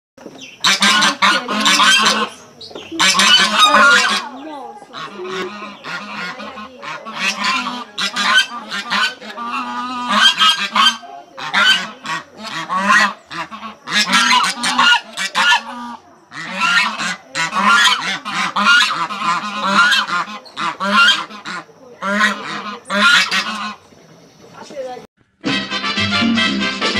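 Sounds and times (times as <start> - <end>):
geese honking: 0.3 - 25.1.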